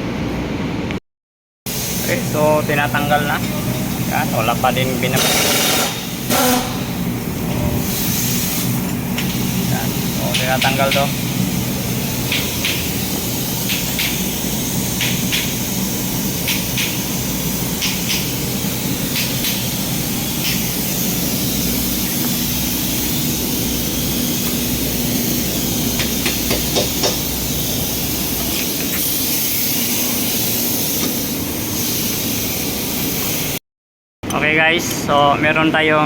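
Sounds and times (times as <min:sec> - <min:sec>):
machine hum and hiss: 0:01.7 - 0:33.6.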